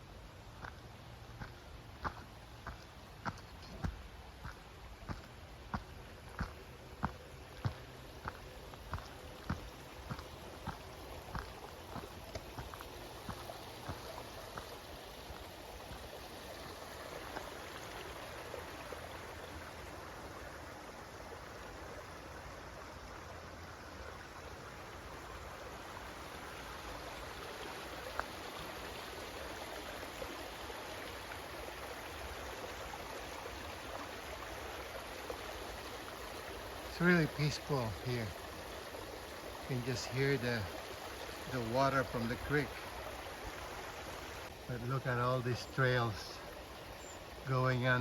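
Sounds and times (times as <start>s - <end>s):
creek water rushing: 0.0s - 48.0s.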